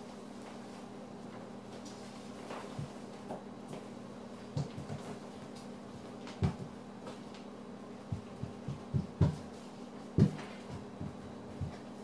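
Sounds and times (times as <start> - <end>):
bare feet on hardwood floor: 0.0 - 12.0
steady low hum: 0.0 - 12.0.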